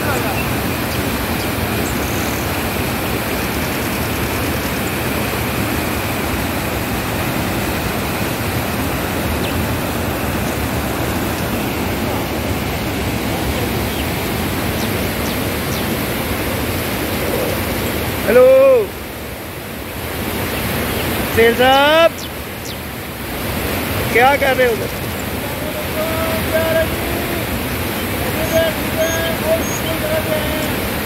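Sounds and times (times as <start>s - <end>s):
stream rushing over boulders: 0.0s - 31.0s.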